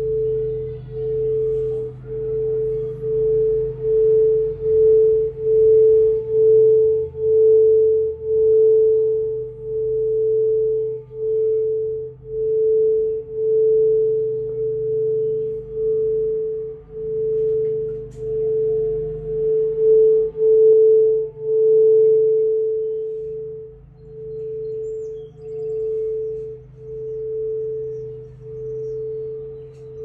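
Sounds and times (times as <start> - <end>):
singing bowl ringing tone: 0.0 - 30.0.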